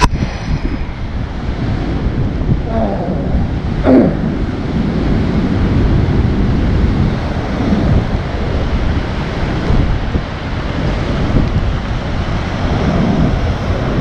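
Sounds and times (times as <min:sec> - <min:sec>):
heavy surf breaking on rocks: 0:00.0 - 0:14.0
wind buffeting microphone: 0:00.0 - 0:14.0.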